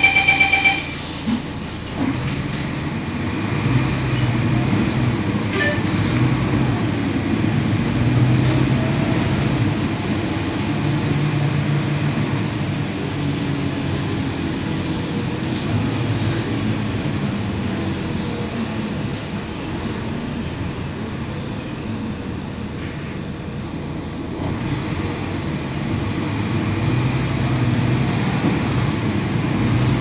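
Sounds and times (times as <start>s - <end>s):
bus diesel engine running: 0.0s - 30.0s
road and tyre noise: 0.0s - 30.0s.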